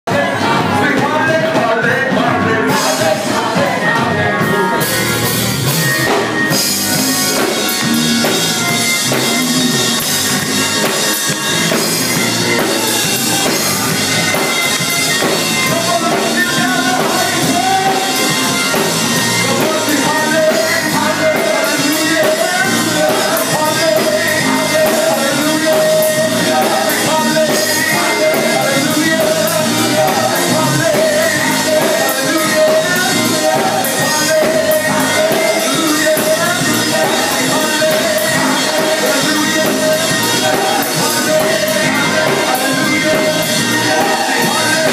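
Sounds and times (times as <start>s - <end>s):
gospel vocal group singing: 0.1s - 44.9s
instrumental accompaniment: 0.1s - 44.9s.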